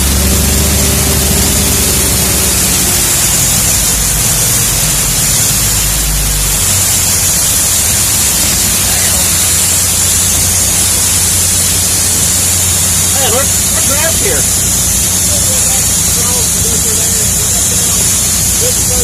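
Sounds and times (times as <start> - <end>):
loud steady hiss: 0.0 - 19.0
truck diesel engine running: 0.0 - 19.0.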